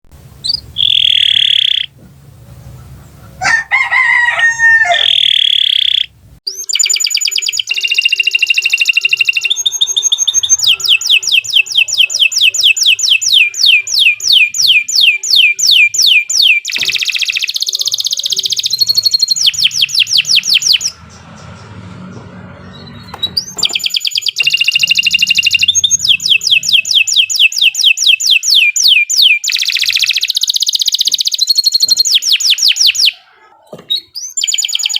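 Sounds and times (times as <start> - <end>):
canary singing trills: 0.4 - 34.9.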